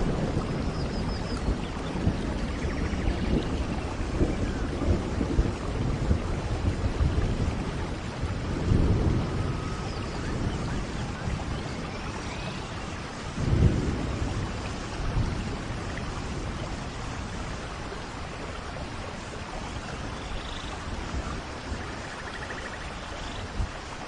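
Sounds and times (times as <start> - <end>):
low rumble of thunder: 0.0 - 24.0
steady rain: 0.0 - 24.0.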